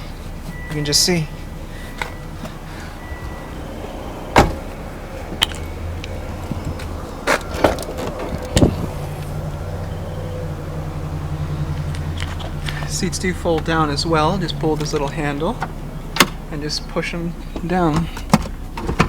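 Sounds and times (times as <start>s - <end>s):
low hum in car: 0.0s - 19.0s
car interior parts knocking: 2.0s - 16.5s, 17.5s - 19.0s.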